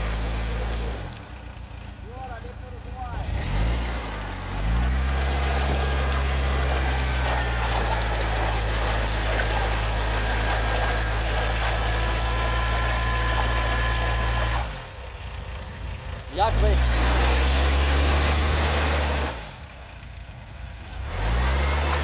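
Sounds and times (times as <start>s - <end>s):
tractor engine revving: 0.0s - 22.0s.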